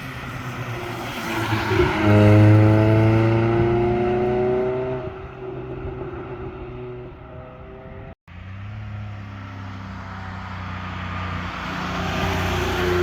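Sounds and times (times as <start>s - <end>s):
car engine and exhaust: 0.0s - 13.0s
car engine approaching: 0.0s - 13.0s.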